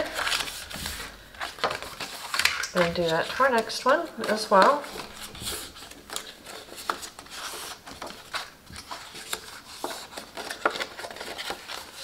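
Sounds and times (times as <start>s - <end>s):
paper rustling and rubbing: 0.0s - 12.0s.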